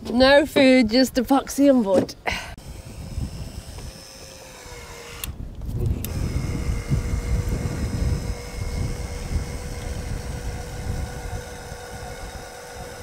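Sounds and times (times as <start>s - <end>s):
cordless power tool whining: 2.2s - 13.0s.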